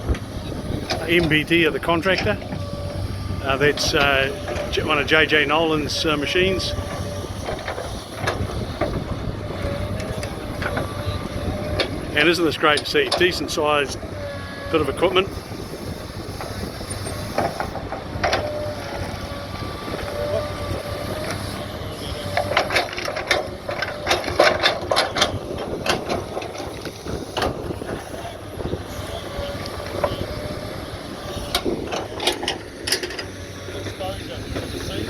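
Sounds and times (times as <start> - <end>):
heavy machine engine drone: 0.0 - 35.0.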